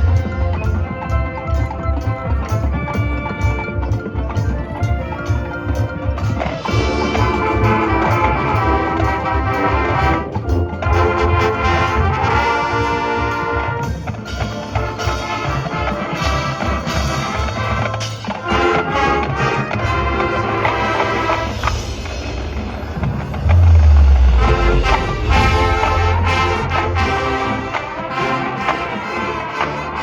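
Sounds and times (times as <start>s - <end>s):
marching drums: 0.0s - 30.0s
trombones and trumpets: 0.0s - 30.0s.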